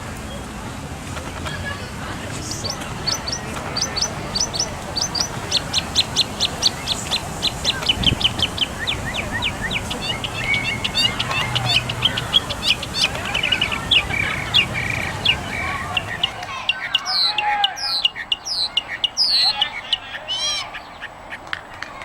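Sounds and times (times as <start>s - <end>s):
birds chirping: 1.4s - 21.5s
bird trill: 2.5s - 21.0s.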